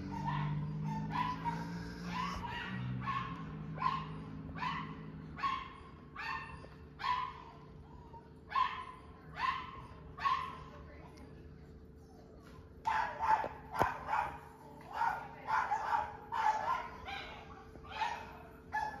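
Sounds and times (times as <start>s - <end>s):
dog barking: 0.0s - 7.7s, 8.5s - 10.7s, 12.8s - 19.0s.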